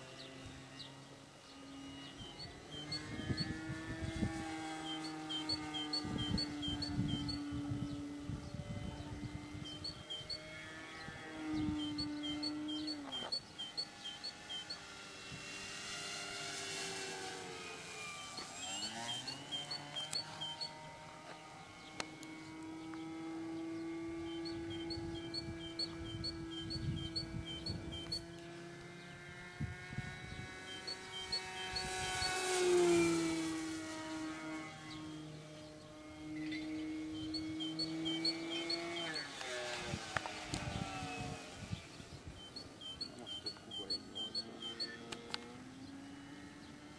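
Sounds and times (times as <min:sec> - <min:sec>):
model airplane motor droning: 0:00.0 - 0:46.9.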